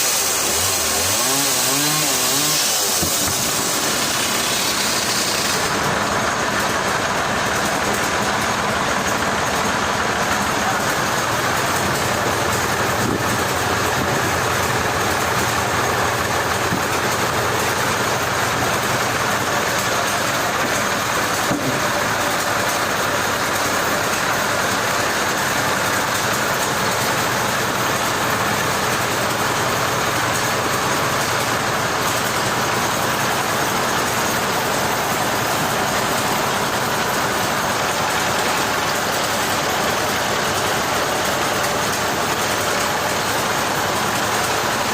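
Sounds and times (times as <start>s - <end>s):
machinery running loudly: 0.0s - 44.9s.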